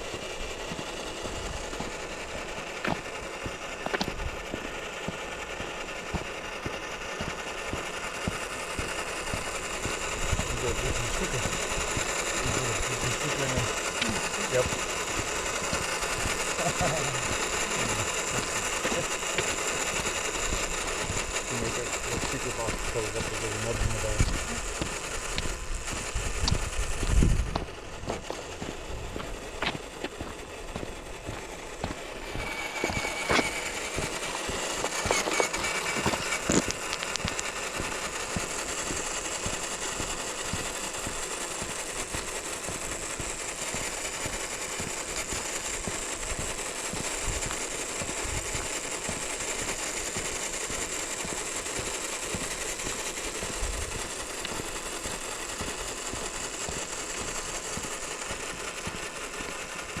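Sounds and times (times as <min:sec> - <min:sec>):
sharp clicks: 0:00.0 - 0:59.8
electric motor whine: 0:00.0 - 1:00.0.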